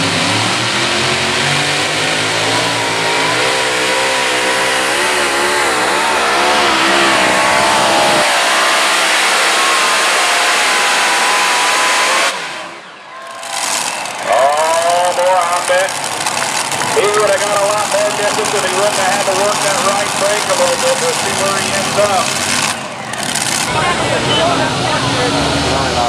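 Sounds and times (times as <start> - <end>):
pulling tractor engines at full throttle: 0.0 - 26.0.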